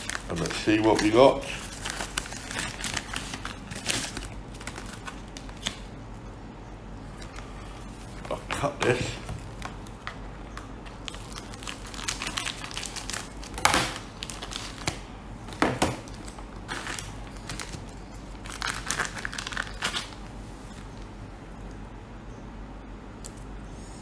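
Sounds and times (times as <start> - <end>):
plastic wrapping crinkling and tearing: 0.0 - 5.9, 7.0 - 21.1.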